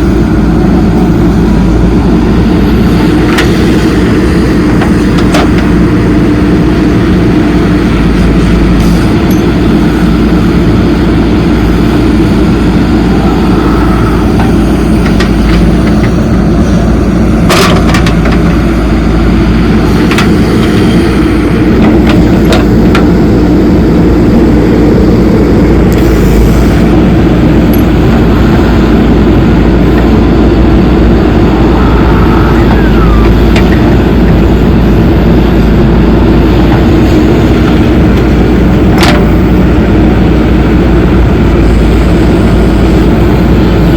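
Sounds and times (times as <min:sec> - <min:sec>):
diesel machinery engine running: 0:00.0 - 0:43.9.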